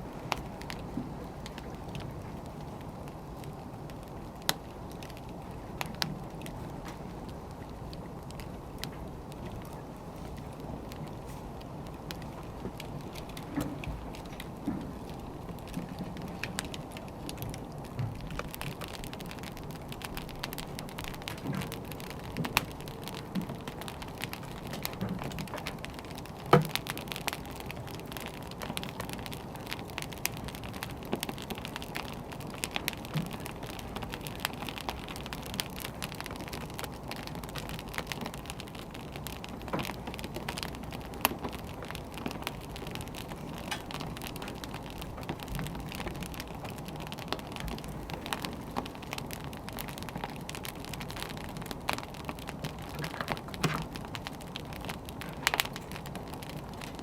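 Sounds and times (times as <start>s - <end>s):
firewood crackling and popping: 0.0s - 57.0s
low rumble of flames: 0.0s - 57.0s.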